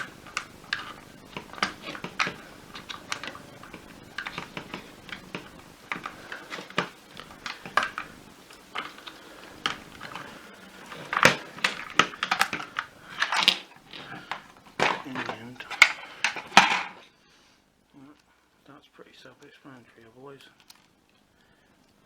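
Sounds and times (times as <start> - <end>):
clicking and knocking of plastic parts: 0.0 - 17.1, 20.4 - 22.0.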